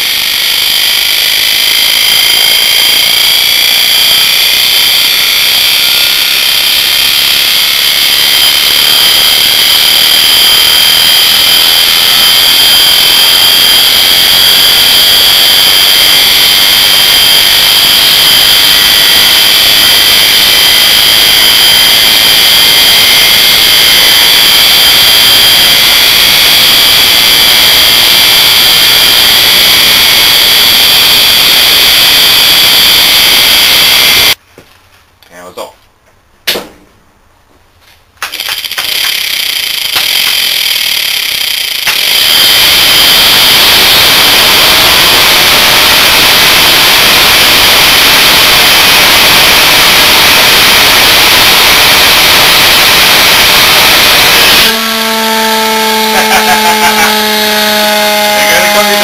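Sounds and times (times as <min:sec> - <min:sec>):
electric motor high-pitched whine: 0:00.0 - 0:34.4, 0:38.4 - 0:59.0.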